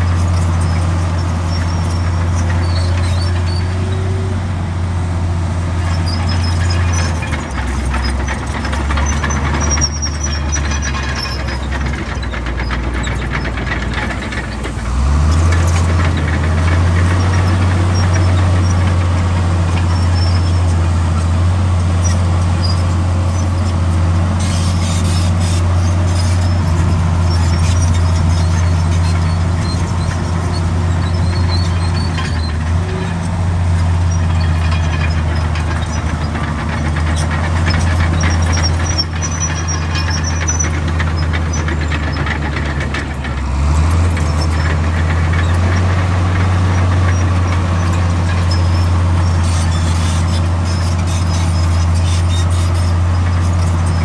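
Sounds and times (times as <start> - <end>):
metallic squeaks and clicks: 0.0 - 4.2, 5.8 - 54.0
heavy diesel engine droning: 0.0 - 54.0.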